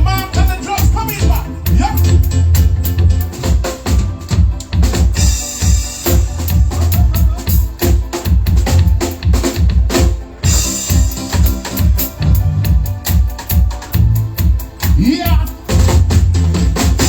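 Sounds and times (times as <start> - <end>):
bass line: 0.0 - 17.0
kick and snare drum beat: 0.0 - 17.0
live band playing: 0.0 - 17.0.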